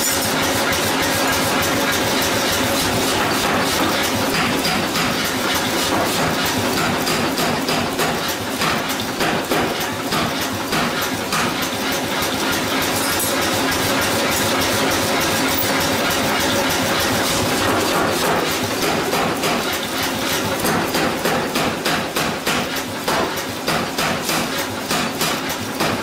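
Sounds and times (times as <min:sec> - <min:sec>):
heavy shop machinery running: 0:00.0 - 0:26.0.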